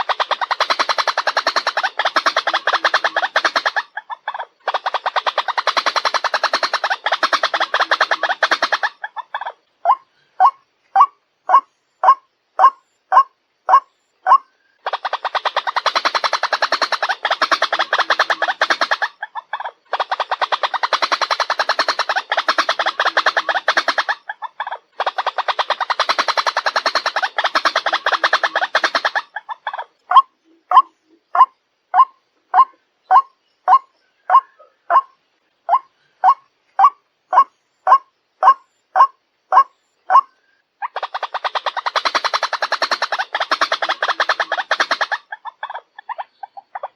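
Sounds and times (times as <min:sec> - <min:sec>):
waterhen calling: 0:00.0 - 0:46.9.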